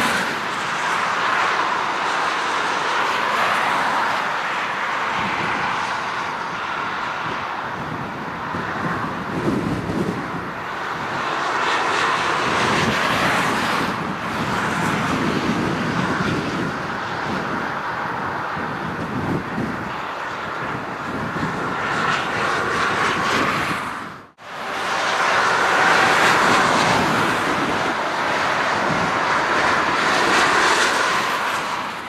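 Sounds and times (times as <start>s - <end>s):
jet engines whining: 0.0s - 32.0s.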